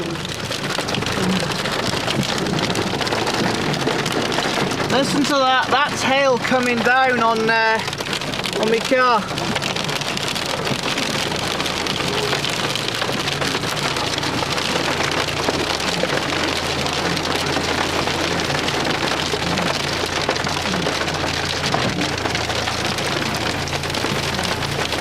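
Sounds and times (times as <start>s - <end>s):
hail pattering on car: 0.0s - 25.0s.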